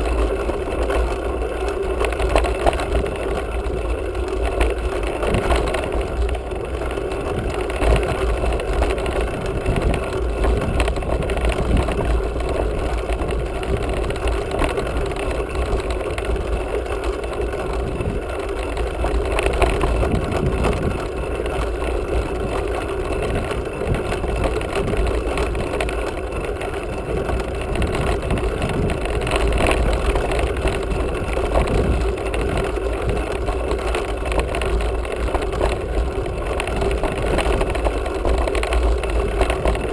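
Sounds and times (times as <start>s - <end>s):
bike tyres rolling on dirt: 0.0s - 39.9s
wind buffeting microphone: 2.0s - 39.9s.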